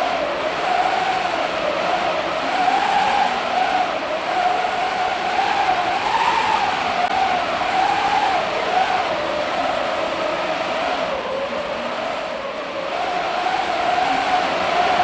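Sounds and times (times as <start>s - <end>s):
whistling gale wind: 0.0s - 15.0s.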